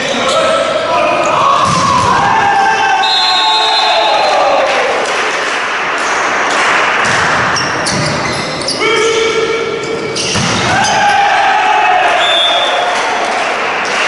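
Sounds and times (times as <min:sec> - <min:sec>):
spectators cheering and shouting: 0:00.1 - 0:14.0.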